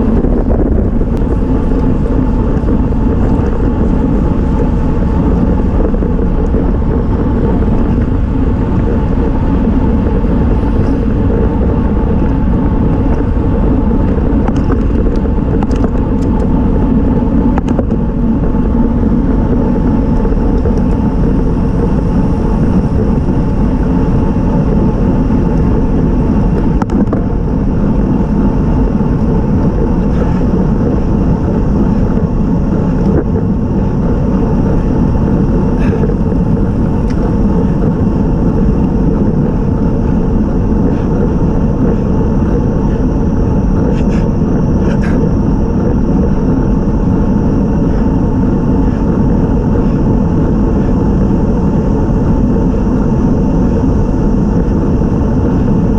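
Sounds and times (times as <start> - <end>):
bicycle tyres on road: 0.0 - 55.9
wind rush: 0.0 - 55.9.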